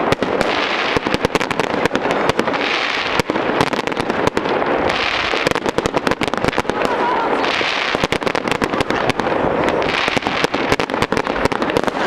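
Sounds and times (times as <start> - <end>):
firework fountain hissing: 0.0 - 12.0
fireworks crackling pops: 0.0 - 12.0.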